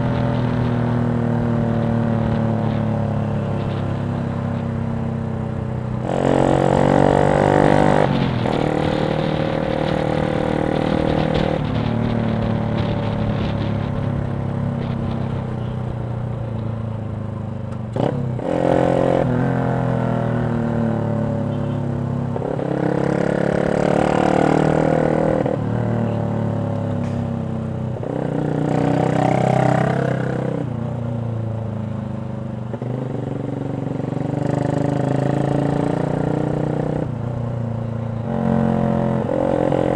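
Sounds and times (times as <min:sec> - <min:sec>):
motorcycle engine revving: 0:00.0 - 0:15.7, 0:17.9 - 0:30.8, 0:32.6 - 0:39.9.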